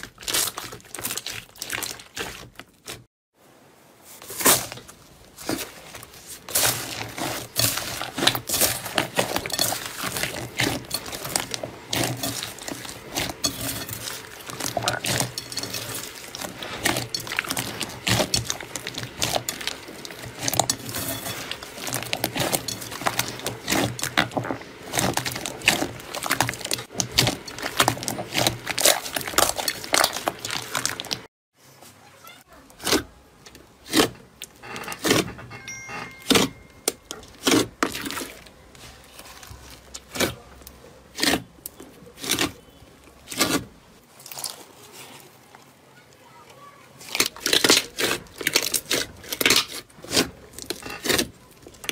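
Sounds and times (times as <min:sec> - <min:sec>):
soft slime squelches: 0:00.0 - 0:03.0, 0:03.9 - 0:34.1, 0:35.6 - 0:51.9
crunchy slime crackling and squishing: 0:00.0 - 0:03.1, 0:04.1 - 0:31.3, 0:32.1 - 0:51.9.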